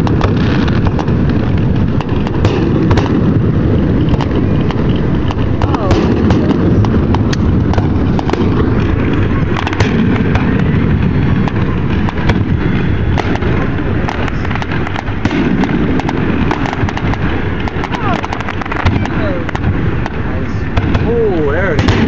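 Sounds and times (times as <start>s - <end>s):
fireworks bursting: 0.0s - 22.0s
low rumble: 0.0s - 22.0s.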